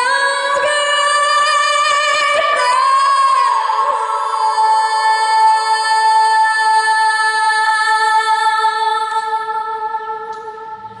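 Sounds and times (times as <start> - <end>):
woman singing a long high note: 0.0 - 11.0.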